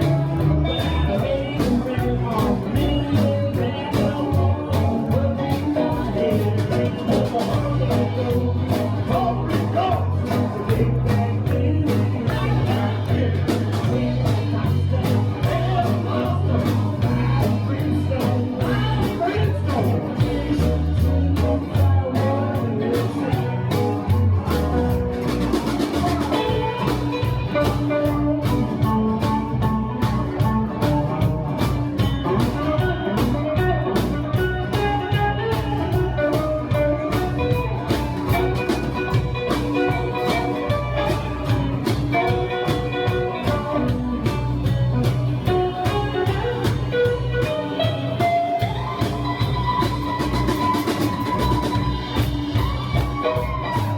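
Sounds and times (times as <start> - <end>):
bass: 0.0 - 53.9
drum kit beat: 0.0 - 53.9
electric guitar lead: 0.0 - 53.9.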